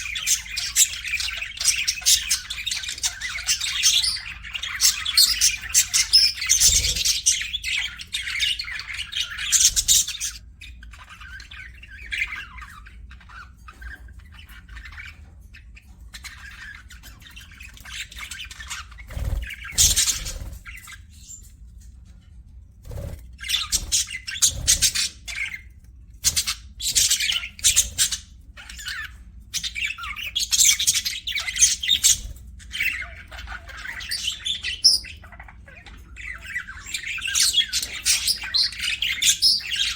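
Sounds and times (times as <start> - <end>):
budgerigars chirping: 0.0 - 21.5, 22.8 - 39.9.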